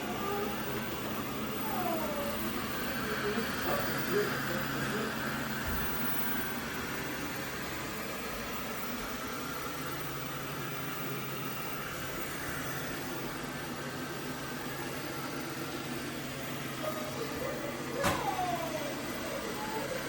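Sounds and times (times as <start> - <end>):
robot vacuum running: 0.0 - 20.0.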